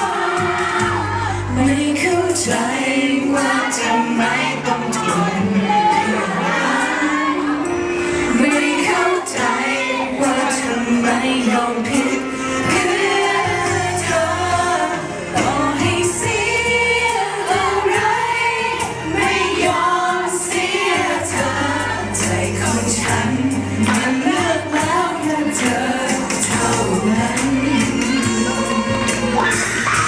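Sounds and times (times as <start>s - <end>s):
musical accompaniment: 0.0s - 30.0s
people singing pop ballad: 0.0s - 30.0s.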